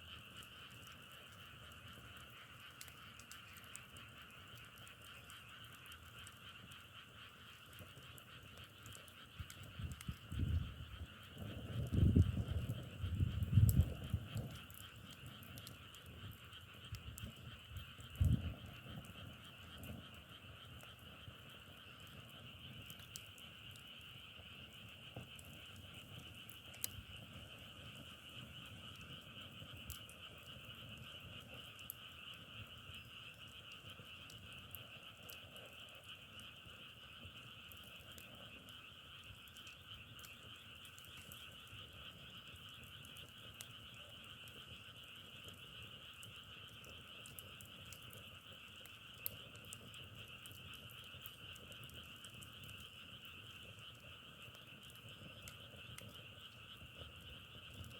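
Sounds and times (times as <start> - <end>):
faint ticks: 0.0 - 57.9
frogs chorus calling: 0.1 - 57.9.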